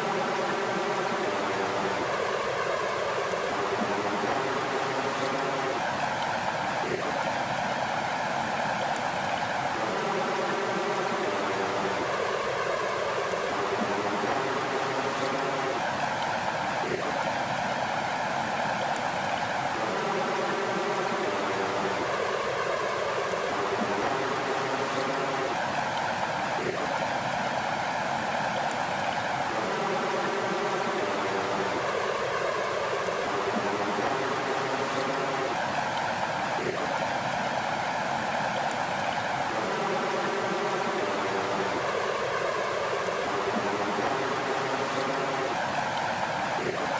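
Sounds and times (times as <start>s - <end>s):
flowing water: 0.0s - 46.9s.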